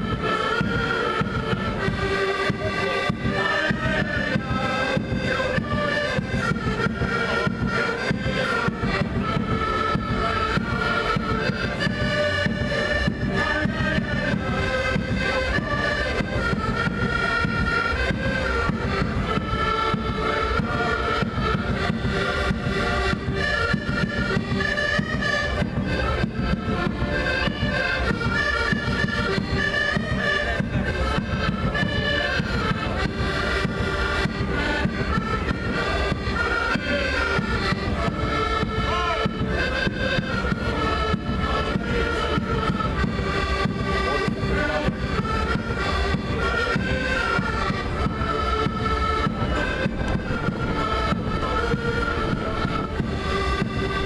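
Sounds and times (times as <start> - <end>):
accordions playing folk tune: 0.0 - 54.0.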